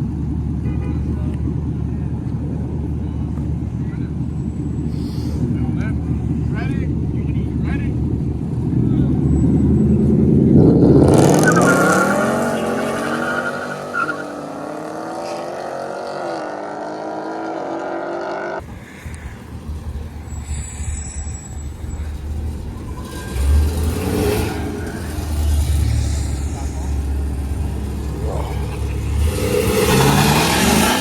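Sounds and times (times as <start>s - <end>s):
car engine accelerating hard: 1.2s - 18.7s, 21.4s - 31.0s.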